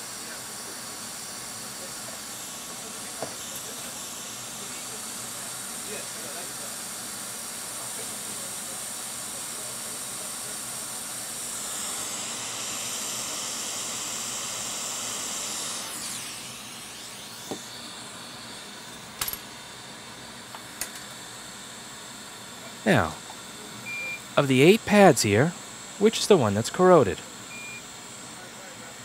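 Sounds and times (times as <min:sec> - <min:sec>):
hot air station hissing: 0:00.0 - 0:29.0.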